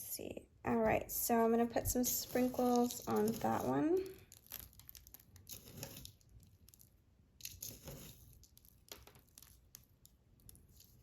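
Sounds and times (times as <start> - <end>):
sprinkles rustling and clicking: 1.9 - 11.0.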